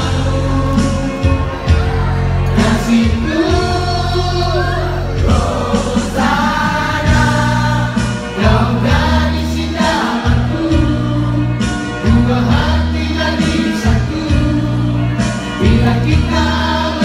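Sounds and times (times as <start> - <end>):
man singing through loudspeakers: 0.0 - 17.0
rock band backing: 0.0 - 17.0.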